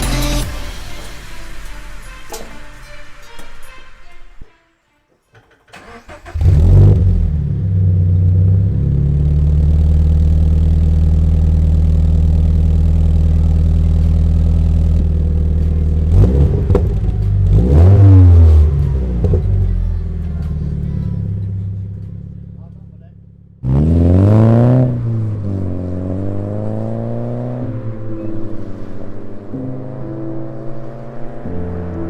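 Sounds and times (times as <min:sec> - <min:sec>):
car engine idling and revving: 0:05.7 - 0:32.0.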